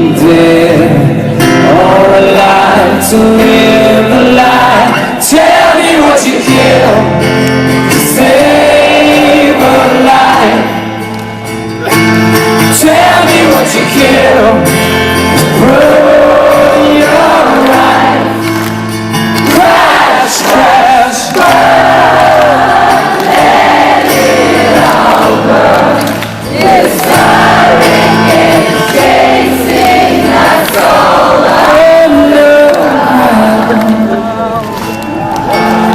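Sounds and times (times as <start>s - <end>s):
wordless singing: 0.0s - 7.2s, 8.0s - 10.9s, 12.7s - 14.7s, 15.4s - 18.4s, 19.5s - 34.5s
crowd singing along: 0.0s - 35.9s
guitar chords: 0.0s - 35.9s.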